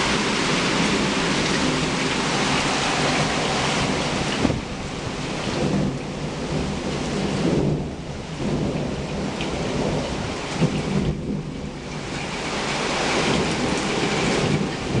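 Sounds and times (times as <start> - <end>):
heavy rain pouring: 0.0 - 15.0
thunder rumbling: 0.1 - 15.0.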